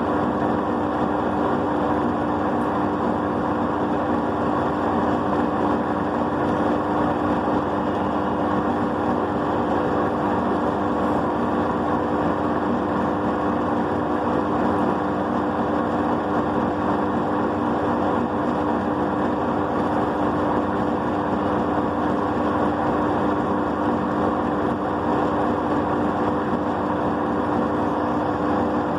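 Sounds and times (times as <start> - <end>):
wet grinder motor hum and whir: 0.0 - 28.9.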